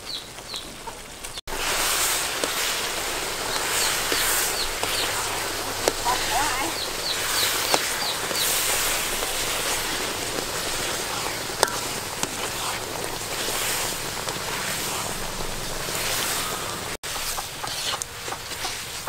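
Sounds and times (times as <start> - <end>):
pulp bubbling and sizzling: 0.2 - 19.0
ladle stirring: 1.5 - 19.0.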